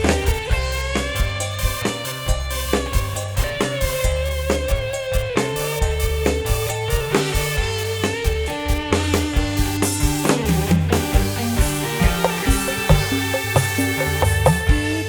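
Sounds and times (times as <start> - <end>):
bass: 0.0 - 15.0
drum kit beat: 0.0 - 15.0
plucked guitar: 0.0 - 15.0.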